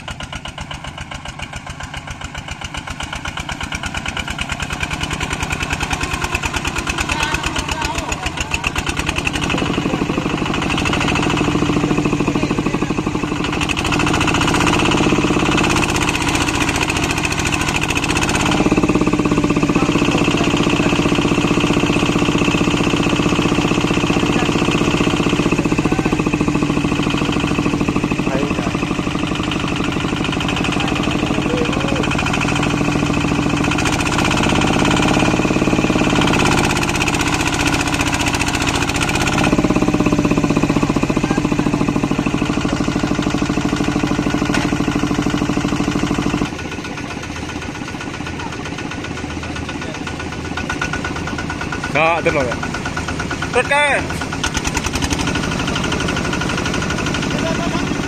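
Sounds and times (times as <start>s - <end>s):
diesel tractor engine straining: 0.0s - 58.0s.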